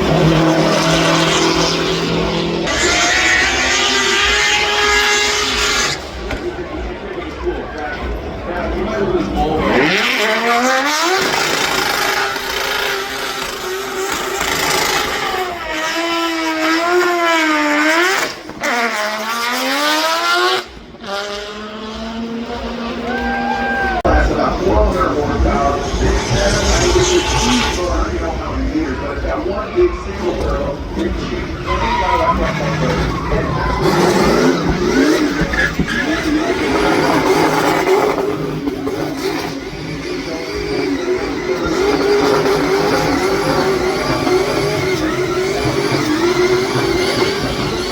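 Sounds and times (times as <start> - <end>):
car engine accelerating hard: 0.0 - 47.9.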